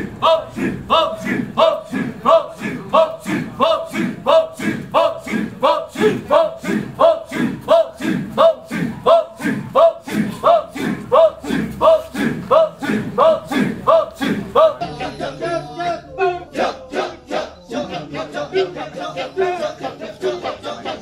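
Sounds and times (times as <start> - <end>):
male chorus chanting: 0.0 - 21.0.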